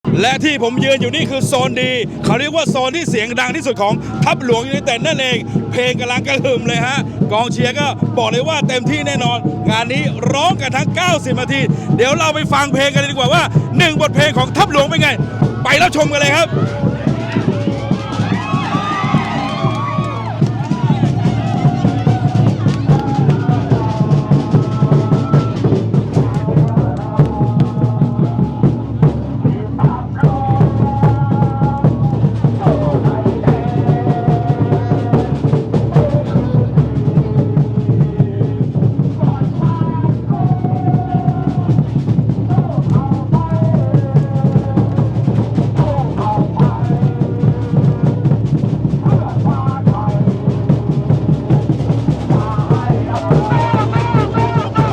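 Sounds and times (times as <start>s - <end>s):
crowd singing a chant: 0.0s - 54.9s
pounding bass drums: 0.0s - 54.9s.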